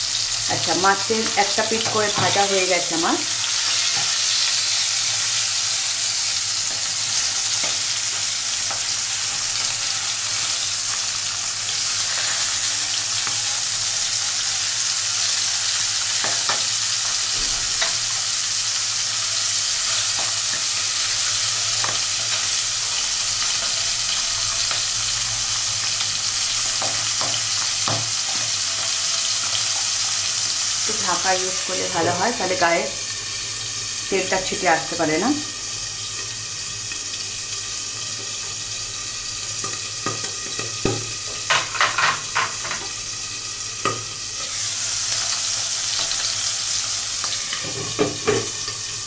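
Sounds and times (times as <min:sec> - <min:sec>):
fish frying in oil: 0:00.0 - 0:49.0.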